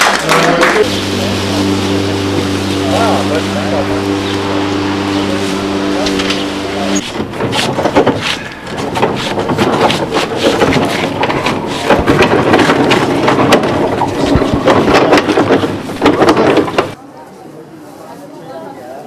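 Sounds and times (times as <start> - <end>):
heavy cabinet scraping on stone: 0.8 - 17.0.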